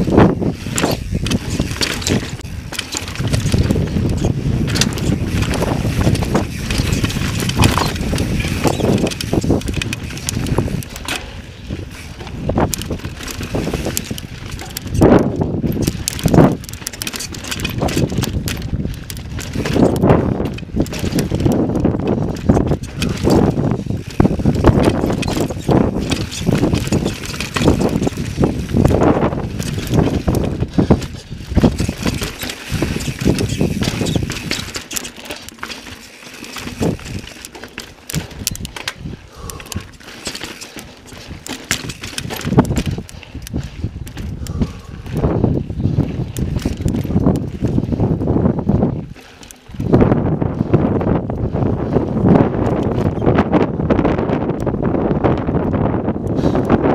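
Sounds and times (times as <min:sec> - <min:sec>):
bike knocks and rattles: 0:00.0 - 0:56.9
bike tyres rumbling on rock: 0:00.0 - 0:56.9
wind on microphone: 0:00.0 - 0:56.9.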